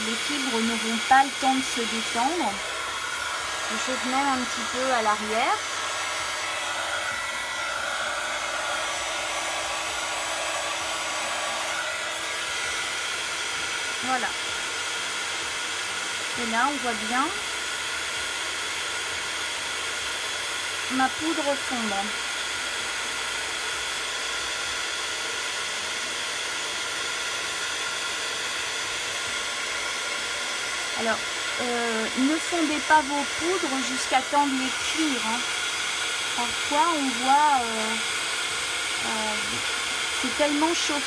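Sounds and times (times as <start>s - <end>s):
heat gun blowing: 0.0s - 41.0s.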